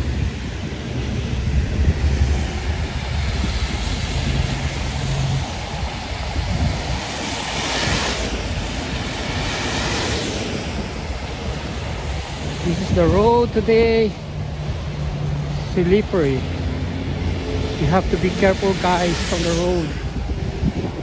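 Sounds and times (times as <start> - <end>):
cars driving past on wet road: 0.0 - 21.0.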